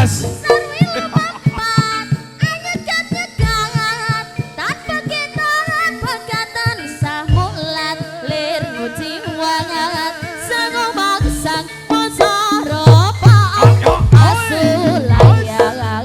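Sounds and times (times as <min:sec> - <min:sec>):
percussion ensemble music: 0:00.0 - 0:16.0.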